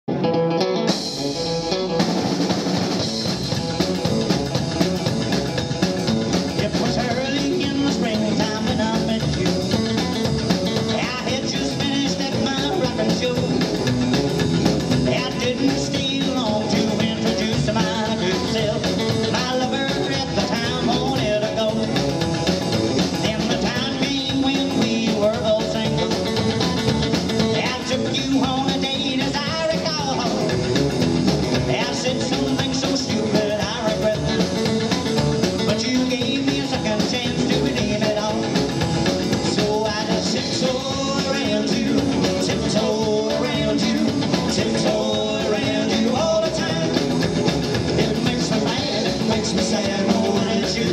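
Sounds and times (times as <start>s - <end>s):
electric guitar: 0.0s - 50.9s
drum kit: 0.1s - 50.9s
upright double bass: 0.1s - 50.9s.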